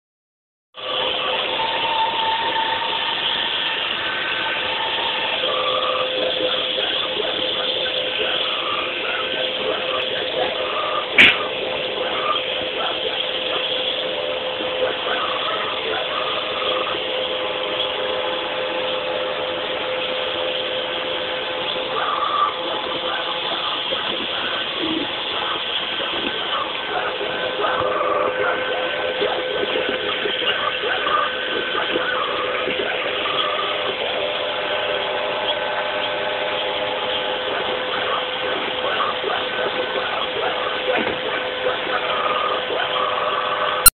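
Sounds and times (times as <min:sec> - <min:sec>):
constant tone: 0:00.8 - 0:43.9
robot vacuum cleaner whirring: 0:00.8 - 0:43.9.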